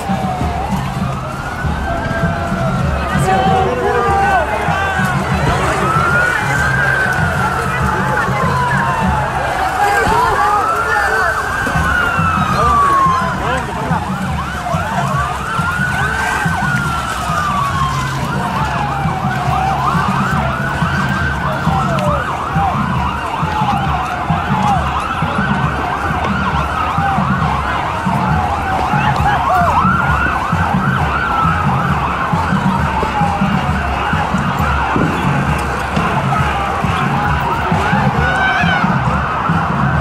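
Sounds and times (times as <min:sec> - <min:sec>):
police siren wailing: 0:00.0 - 0:40.0.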